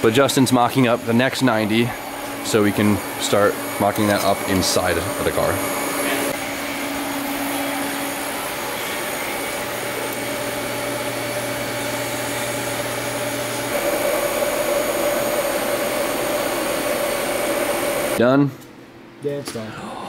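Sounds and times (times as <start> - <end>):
welding arc hiss and hum: 0.0 - 18.2.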